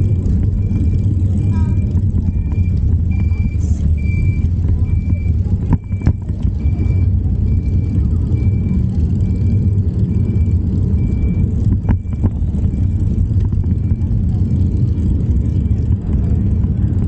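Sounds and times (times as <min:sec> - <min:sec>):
backup alarm beeping: 0:00.0 - 0:15.9
low rumble: 0:00.0 - 0:17.0.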